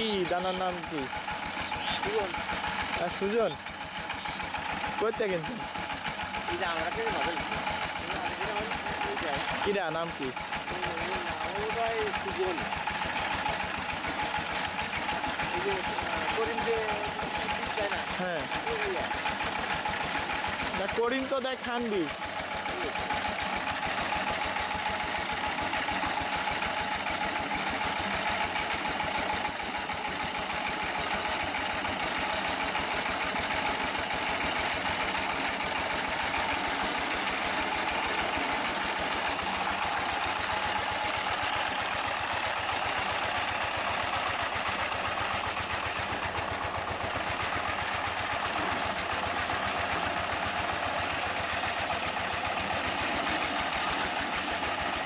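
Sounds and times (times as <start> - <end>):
diesel tiller engine knocking: 0.0 - 55.0.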